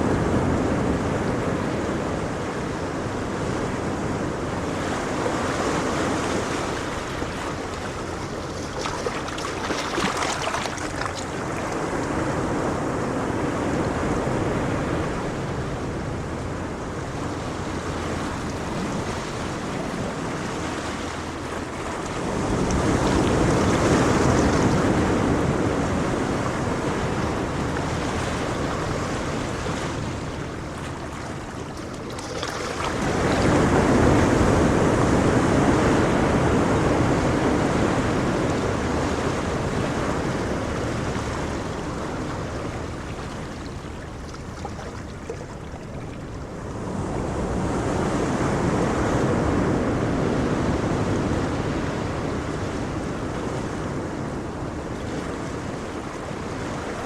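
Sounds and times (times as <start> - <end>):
ocean waves washing ashore: 0.0 - 57.0.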